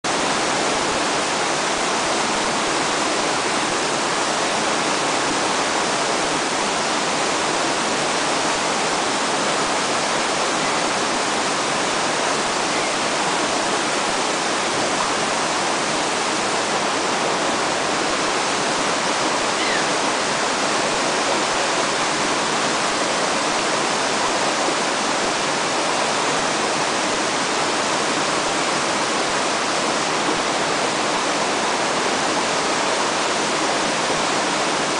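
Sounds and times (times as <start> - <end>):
river current rushing: 0.1 - 34.9.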